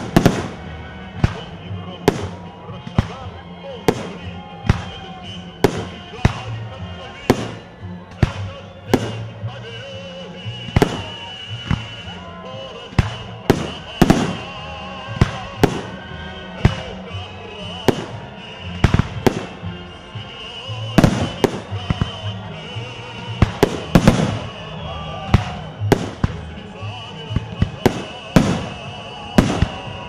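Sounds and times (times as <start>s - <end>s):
fireworks bangs: 0.0s - 9.4s, 10.6s - 12.1s, 12.8s - 30.0s
music: 0.0s - 30.0s.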